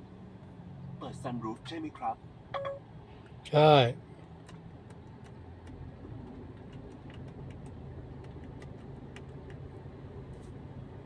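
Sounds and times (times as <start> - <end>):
low hum inside car cabin: 0.0 - 11.0.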